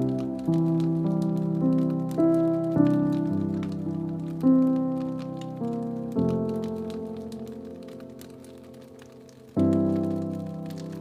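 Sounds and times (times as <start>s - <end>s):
fireplace crackle: 0.0s - 11.0s
soft background music chords: 0.0s - 11.0s.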